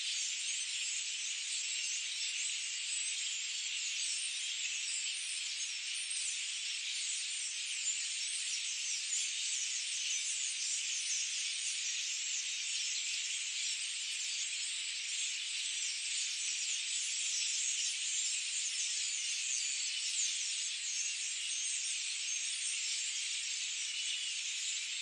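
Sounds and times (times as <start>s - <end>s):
many small birds chirping: 0.0s - 25.0s.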